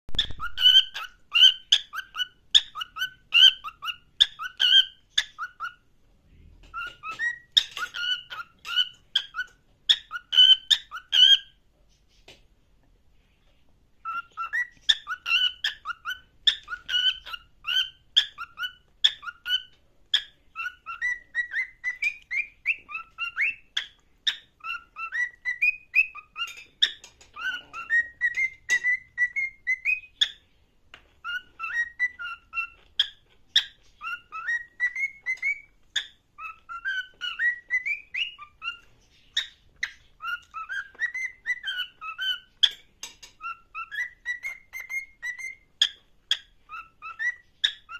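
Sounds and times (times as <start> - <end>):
parrot whistling: 0.1 - 5.9, 6.7 - 11.6, 14.0 - 30.4, 31.2 - 42.8, 43.4 - 47.9.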